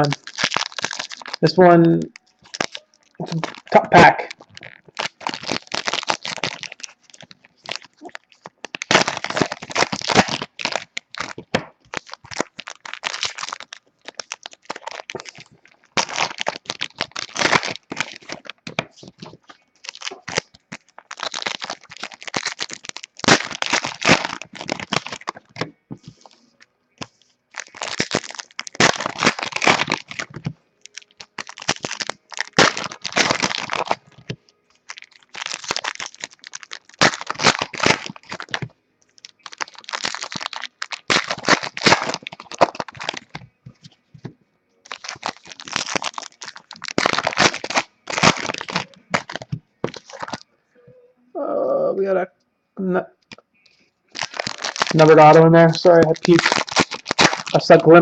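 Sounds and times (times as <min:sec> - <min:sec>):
foil wrappers torn and crinkled: 0:00.0 - 0:44.0, 0:44.8 - 0:50.4, 0:54.1 - 0:58.0.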